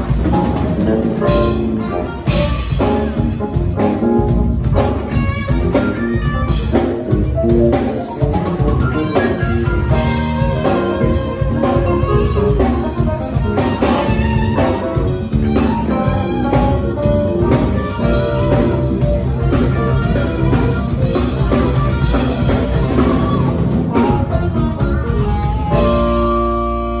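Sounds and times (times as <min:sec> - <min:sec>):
drum kit: 0:00.0 - 0:27.0
electric guitar: 0:00.0 - 0:27.0
keyboards: 0:00.0 - 0:27.0.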